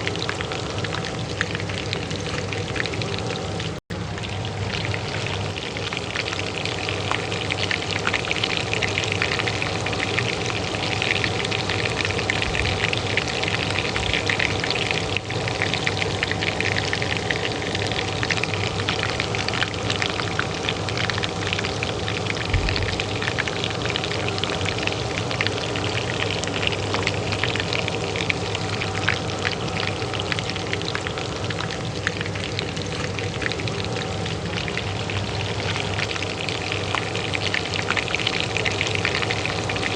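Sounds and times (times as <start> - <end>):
hot oil frying: 0.0 - 39.9
range hood fan humming: 0.0 - 39.9.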